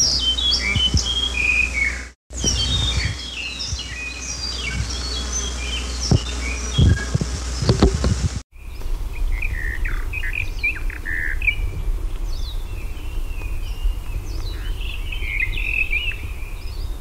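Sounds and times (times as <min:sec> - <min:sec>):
low background rumble: 0:00.0 - 0:17.0
songbird singing: 0:00.0 - 0:17.0.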